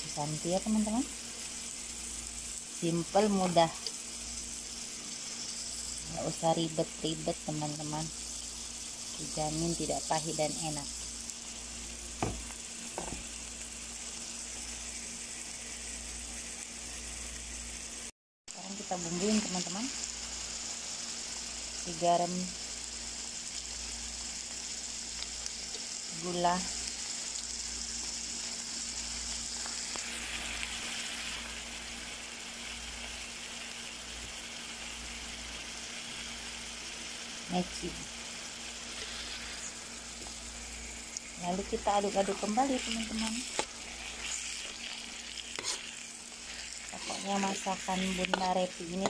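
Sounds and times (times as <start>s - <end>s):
food sizzling in a wok: 0.0s - 49.0s.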